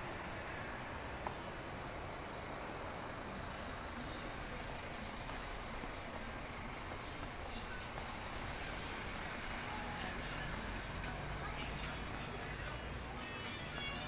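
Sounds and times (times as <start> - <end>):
distant city traffic hum: 0.0 - 14.0.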